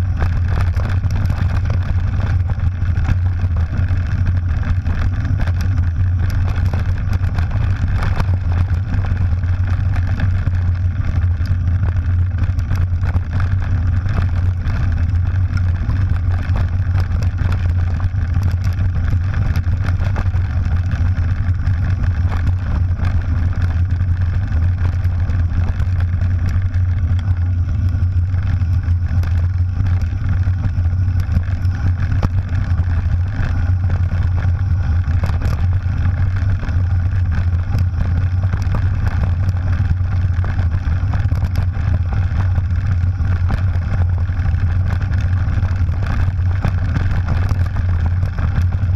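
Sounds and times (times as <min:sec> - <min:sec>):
bike tyres on gravel: 0:00.0 - 0:48.9
wind rumble: 0:00.0 - 0:48.9.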